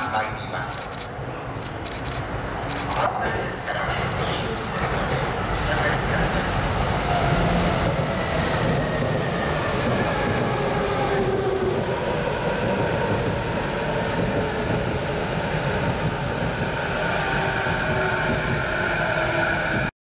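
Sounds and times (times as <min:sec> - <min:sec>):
electric train rolling past: 0:00.0 - 0:19.9.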